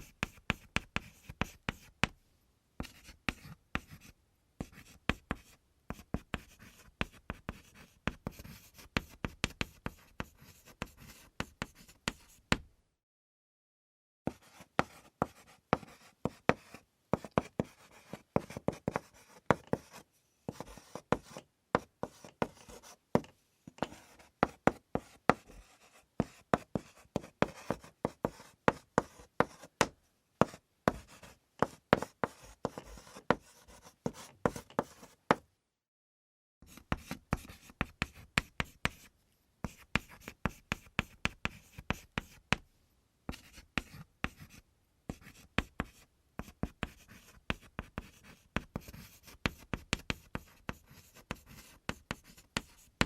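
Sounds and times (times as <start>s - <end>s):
chalk tapping and scraping: 0.0s - 2.2s, 2.8s - 12.7s, 14.3s - 35.4s, 36.6s - 42.6s, 43.3s - 53.0s.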